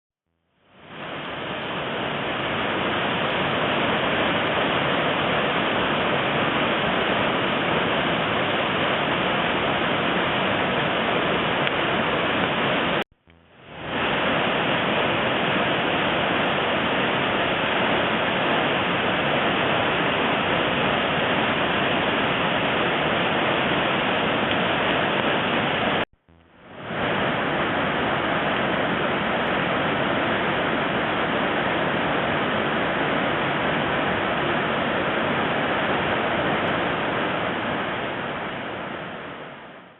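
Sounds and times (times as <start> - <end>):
waterfall roaring: 0.8 - 13.0, 13.8 - 26.0, 26.8 - 39.8.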